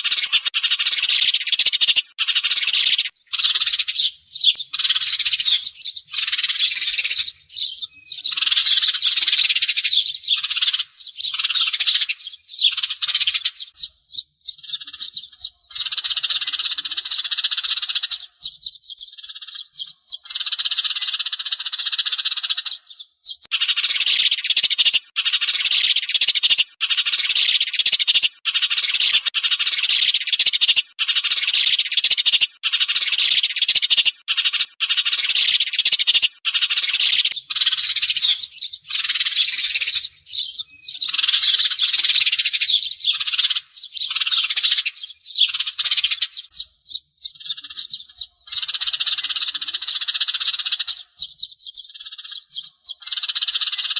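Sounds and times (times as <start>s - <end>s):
sparrows chirping: 0.0s - 53.9s.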